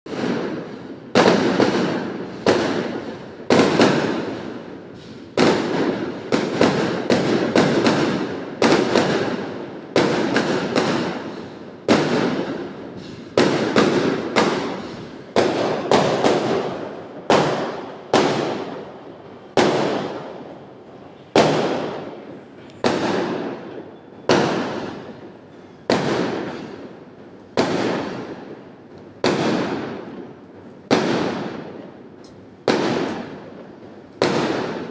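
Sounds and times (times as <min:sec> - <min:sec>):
firecrackers banging: 0:00.1 - 0:34.9.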